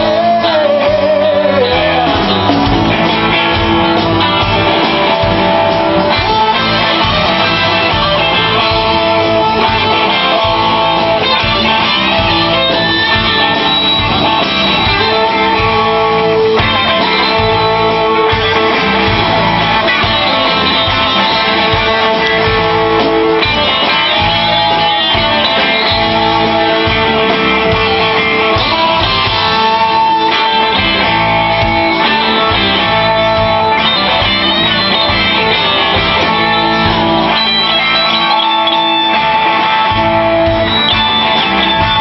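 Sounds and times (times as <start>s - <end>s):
drum kit: 0.0s - 42.0s
electric guitars: 0.0s - 42.0s.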